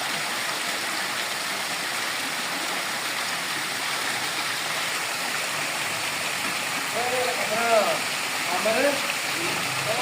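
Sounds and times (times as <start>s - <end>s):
garden waterfall splashing: 0.0s - 10.0s.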